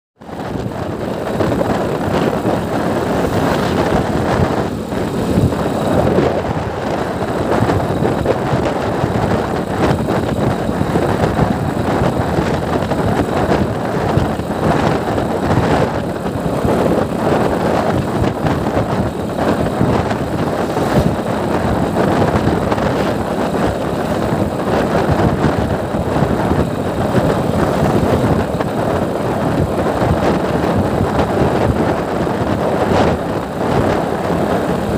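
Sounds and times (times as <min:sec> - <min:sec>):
motorcycle engine and road noise: 0:00.2 - 0:34.9
wind rushing over microphone: 0:00.2 - 0:34.9.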